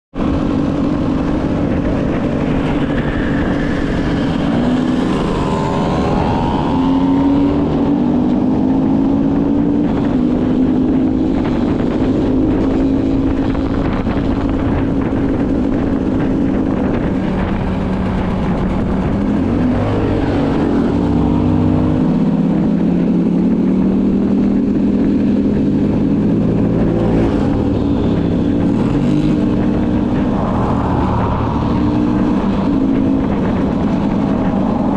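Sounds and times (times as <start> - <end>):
motorcycle engines revving: 0.2 - 34.9.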